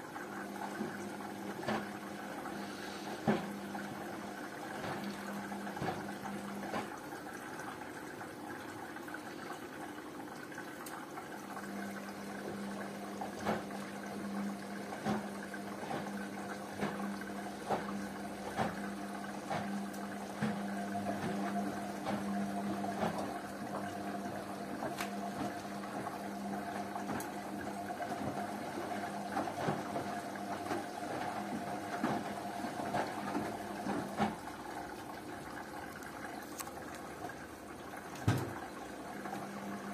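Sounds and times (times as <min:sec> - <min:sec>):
water swishing in washing machine: 0:00.0 - 0:39.9.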